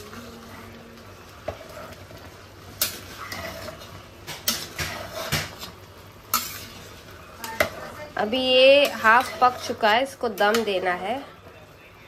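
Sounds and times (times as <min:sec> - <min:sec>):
spatula scraping a pot: 0:00.0 - 0:11.1.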